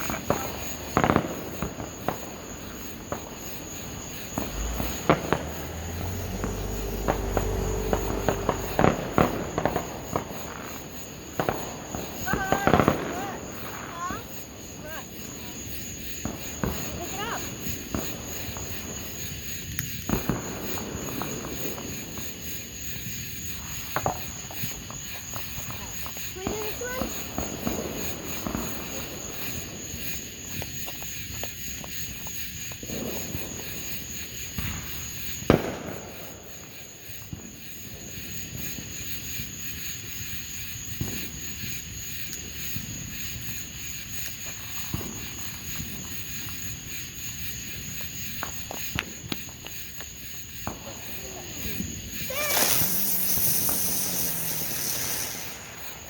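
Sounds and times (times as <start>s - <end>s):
crickets chirping: 0.0s - 56.0s
night insects droning: 0.0s - 56.0s.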